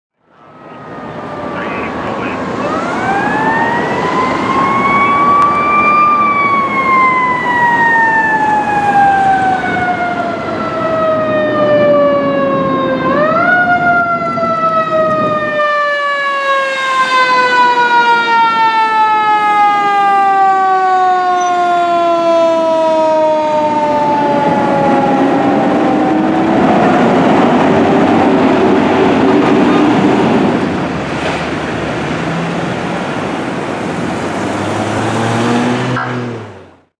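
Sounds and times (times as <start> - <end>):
street traffic: 0.1 - 36.9.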